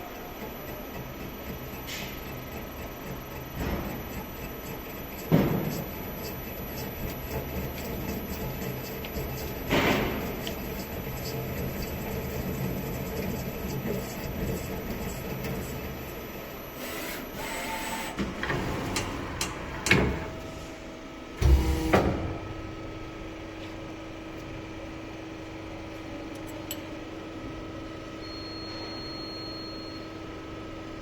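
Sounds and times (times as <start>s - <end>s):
metal spinning machine humming: 0.3s - 17.6s, 18.3s - 27.4s.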